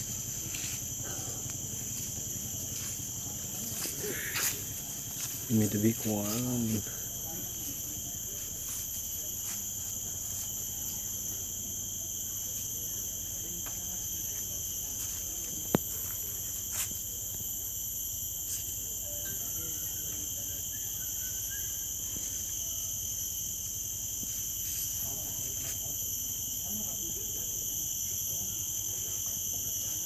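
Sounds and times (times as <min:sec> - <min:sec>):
forest insects chorus: 0:00.0 - 0:30.0.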